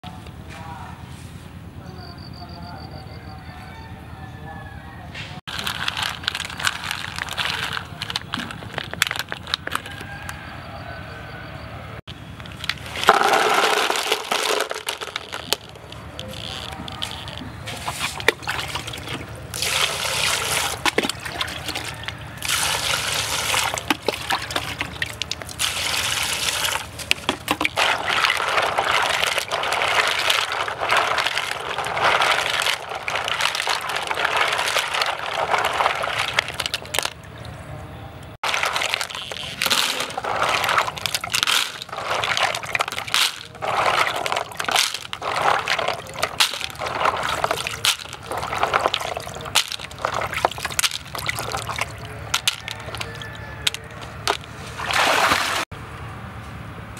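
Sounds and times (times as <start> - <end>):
shells clattering into plastic tub: 5.5 - 10.2, 12.4 - 37.2, 38.4 - 54.5
water sloshing and splashing: 5.5 - 10.4, 12.4 - 55.7.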